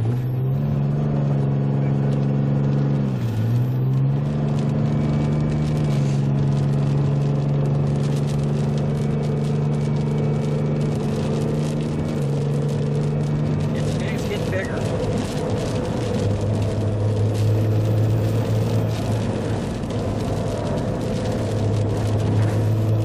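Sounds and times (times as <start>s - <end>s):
car engine from inside cabin: 0.0s - 23.0s.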